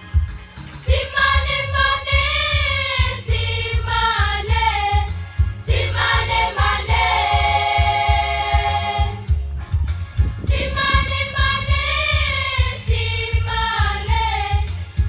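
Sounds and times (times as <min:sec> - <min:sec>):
deep pulsing beat: 0:00.0 - 0:15.0
choir singing: 0:00.8 - 0:09.3, 0:10.4 - 0:14.8.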